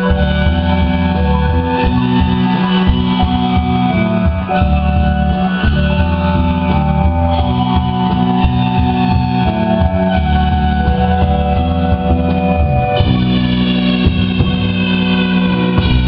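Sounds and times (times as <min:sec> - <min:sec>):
electric guitar lines: 0:00.0 - 0:16.0
sustained bass notes: 0:00.0 - 0:16.0.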